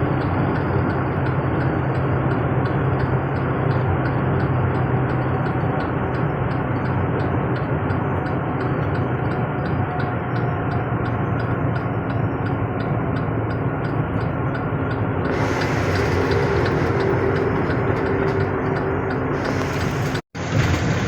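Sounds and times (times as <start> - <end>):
truck engine and road rumble: 0.0 - 21.0.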